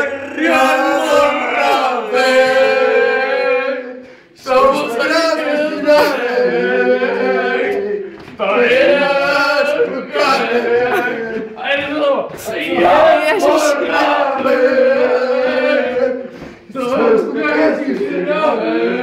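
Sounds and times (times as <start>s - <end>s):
young men singing a chant: 0.0s - 19.0s.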